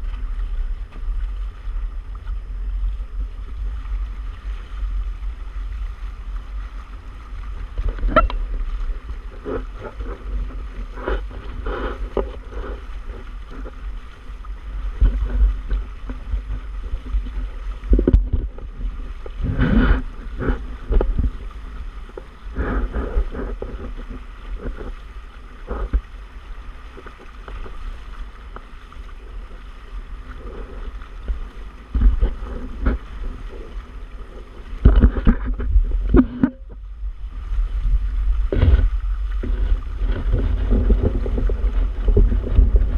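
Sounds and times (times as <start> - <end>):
water splashing against hulls: 0.0 - 42.9
wind on microphone: 0.0 - 42.9.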